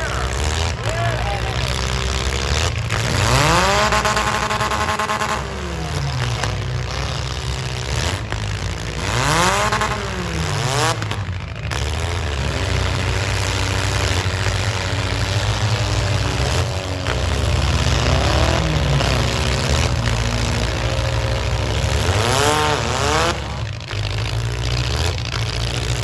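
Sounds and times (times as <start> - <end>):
car engines rumbling: 0.0 - 26.0
engine revving: 0.0 - 26.0.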